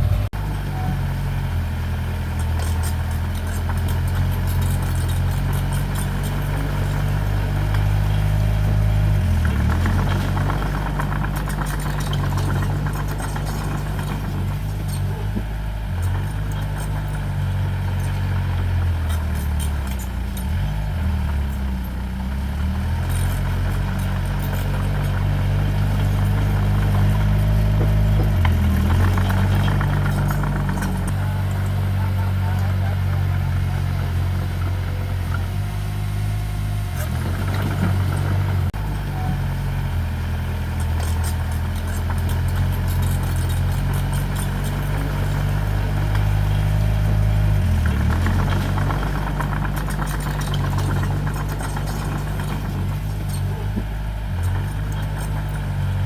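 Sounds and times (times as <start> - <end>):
diesel engine under load: 0.0 - 56.0
light metallic clatter: 2.1 - 56.0.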